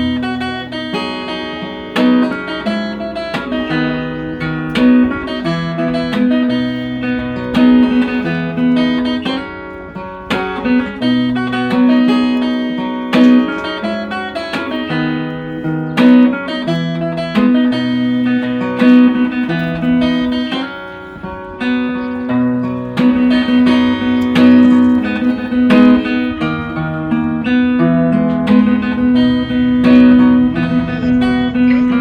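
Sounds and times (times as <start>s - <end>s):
acoustic guitar picked and strummed: 0.0s - 32.0s.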